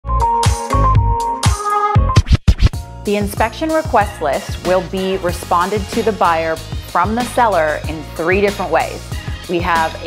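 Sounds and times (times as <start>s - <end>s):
electronic music with synths: 0.1s - 10.0s.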